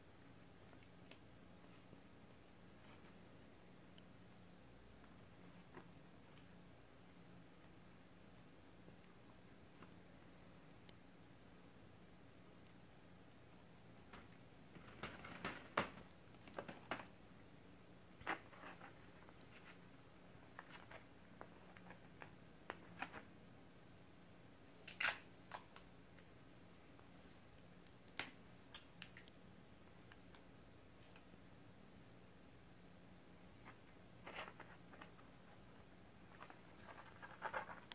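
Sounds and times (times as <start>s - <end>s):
faint low hum: 0.0s - 37.9s.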